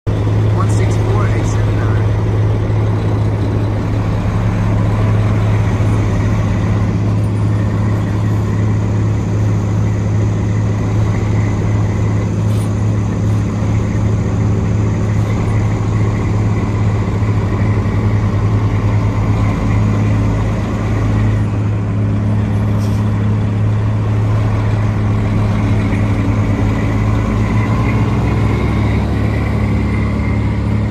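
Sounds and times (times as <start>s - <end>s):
diesel truck engine at low revs: 0.0s - 30.9s.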